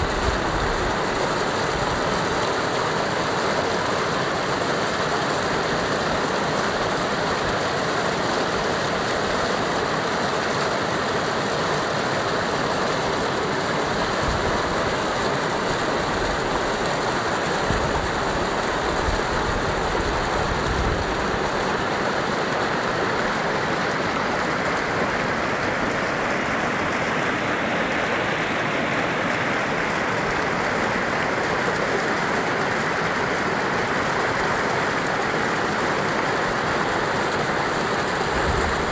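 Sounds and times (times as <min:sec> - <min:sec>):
floodwater rushing over rocks: 0:00.0 - 0:38.9.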